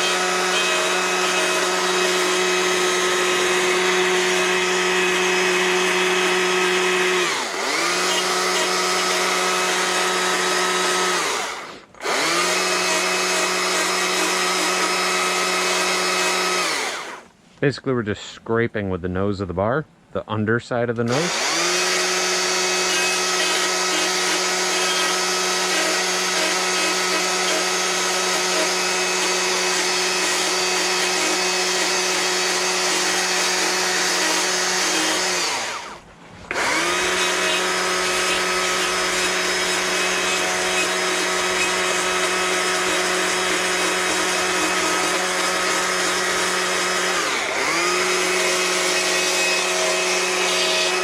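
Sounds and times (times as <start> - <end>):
chainsaw carving wood: 0.0 - 17.3, 21.1 - 51.0.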